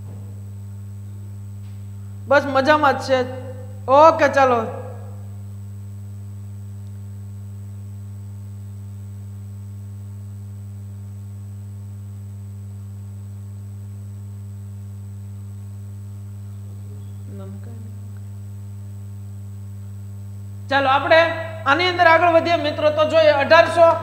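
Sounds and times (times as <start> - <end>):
faint high whine: 0.0 - 24.0
low electrical hum: 0.0 - 24.0.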